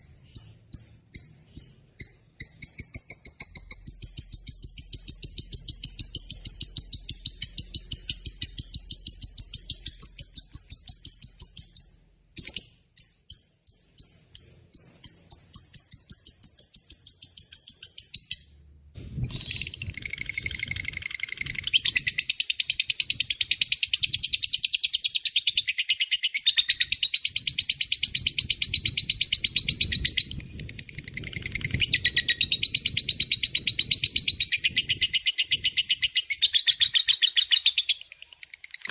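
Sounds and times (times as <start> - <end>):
lovebird chattering song: 0.0 - 18.6, 19.2 - 38.9.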